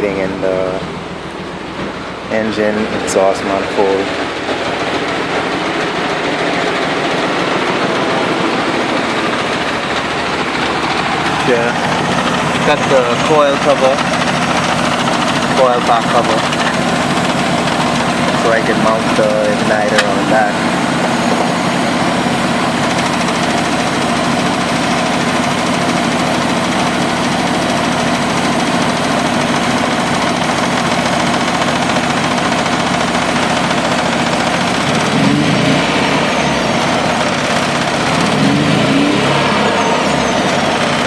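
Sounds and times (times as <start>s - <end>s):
car engine idling unevenly: 0.0s - 41.0s.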